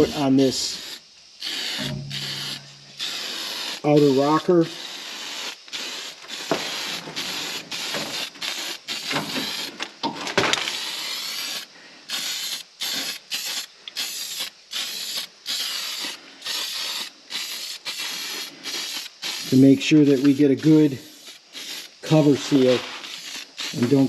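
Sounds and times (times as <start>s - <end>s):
aerosol can spraying: 0.0s - 9.9s, 10.6s - 24.0s.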